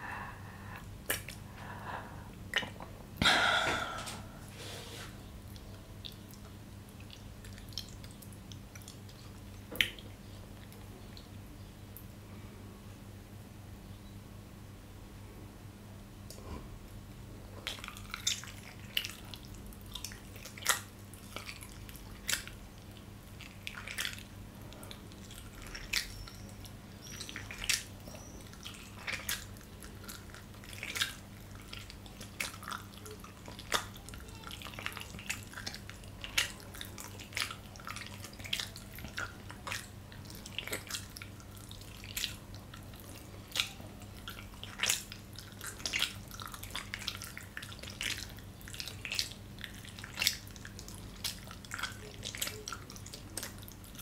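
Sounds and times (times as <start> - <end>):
open-mouth chewing: 0.0 - 3.0, 5.1 - 11.4, 17.4 - 54.0
low electrical hum: 0.0 - 54.0.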